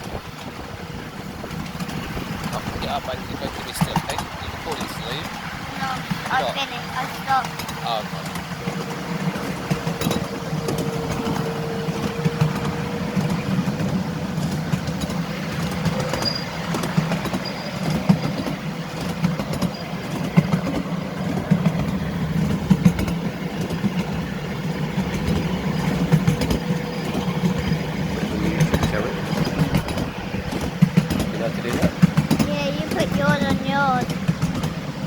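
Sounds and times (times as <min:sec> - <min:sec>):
miniature train humming: 0:00.0 - 0:35.0
wheels clicking and rattling: 0:00.0 - 0:35.0.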